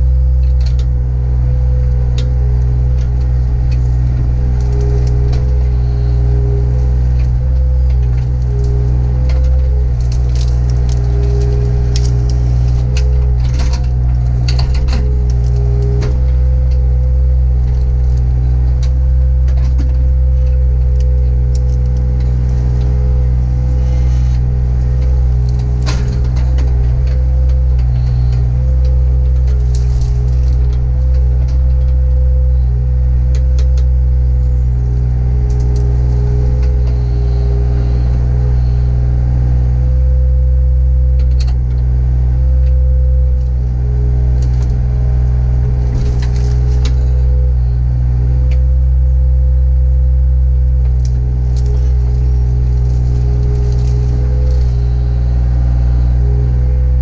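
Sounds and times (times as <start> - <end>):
diesel engine running: 0.0 - 57.0
stems and roots snapping: 1.6 - 39.5, 42.6 - 49.0, 49.8 - 57.0.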